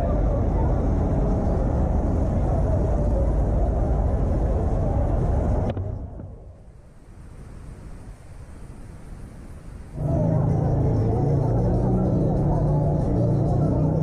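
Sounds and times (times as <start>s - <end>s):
background street noise: 0.0s - 14.0s
low traffic rumble: 0.0s - 14.0s.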